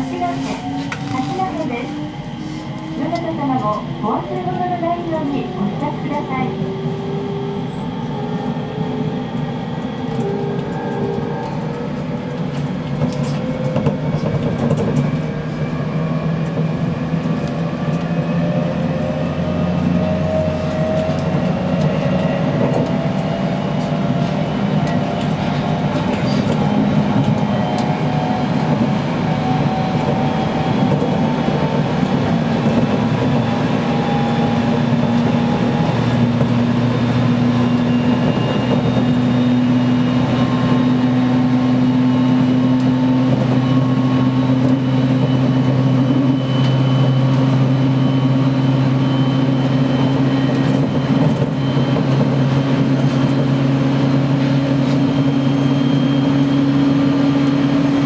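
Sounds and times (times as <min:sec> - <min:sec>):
wheels rumbling on rails: 0:00.0 - 0:58.0.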